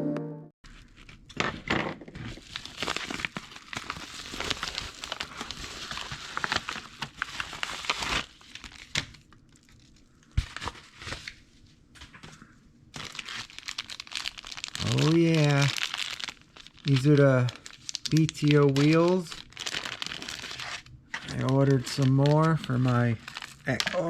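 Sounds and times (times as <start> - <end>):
packaging crinkling and tearing: 0.7 - 11.6, 12.9 - 24.0.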